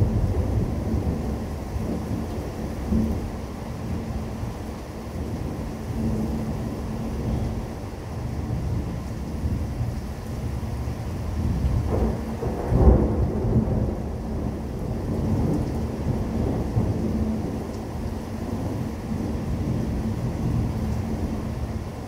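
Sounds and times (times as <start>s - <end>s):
thunder rumbling: 0.0s - 4.5s, 5.2s - 22.0s
rain falling: 0.0s - 22.0s.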